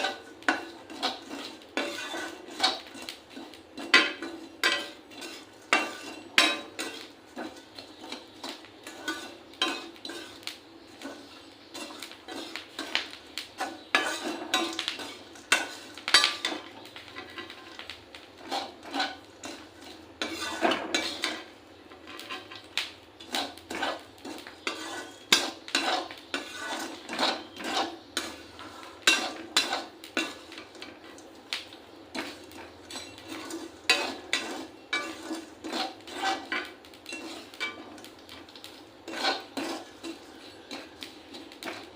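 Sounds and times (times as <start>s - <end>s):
spatula scraping peas in pan: 0.0s - 41.9s.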